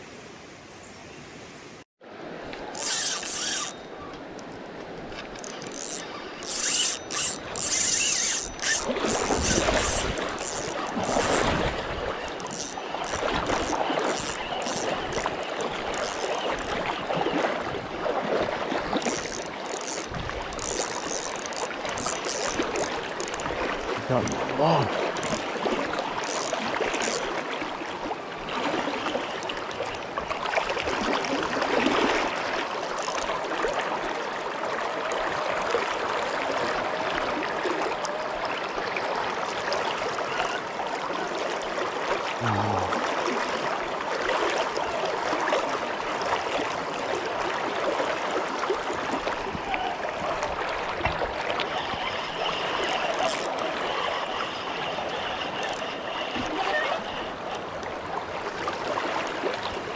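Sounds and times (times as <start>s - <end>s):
river current flowing: 0.0s - 59.9s.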